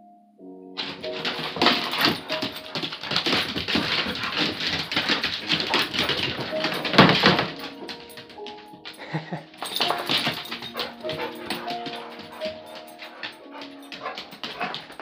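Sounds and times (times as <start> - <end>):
dogs growling: 0.8 - 8.2, 9.0 - 15.0
claws on wooden floor: 0.8 - 15.0
dogs scuffling: 0.8 - 15.0.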